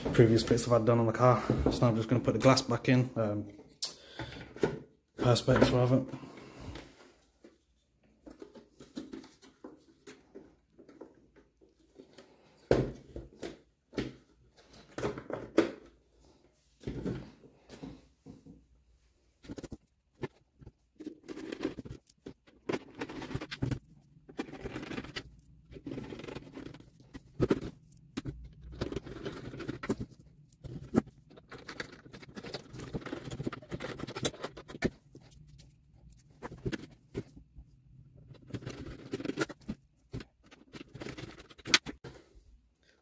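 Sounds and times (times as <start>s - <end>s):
plastic scraping and rustling: 4.4s - 43.0s.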